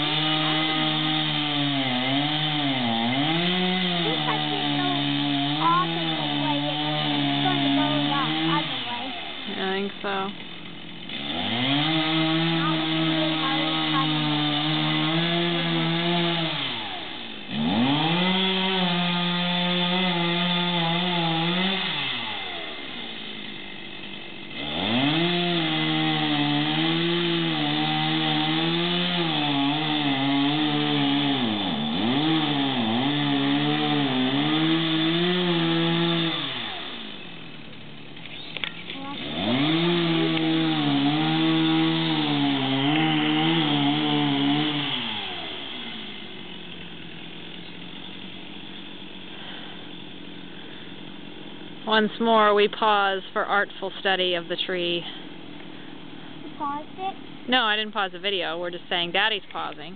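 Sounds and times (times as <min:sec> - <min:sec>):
chainsaw cutting a tree: 0:00.0 - 0:59.8.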